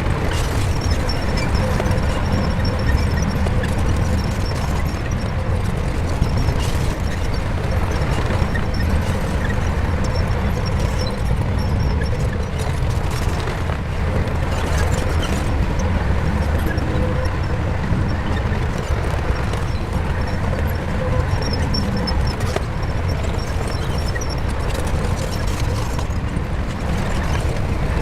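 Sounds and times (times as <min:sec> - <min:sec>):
bulldozer diesel engine rumbling: 0:00.0 - 0:28.0.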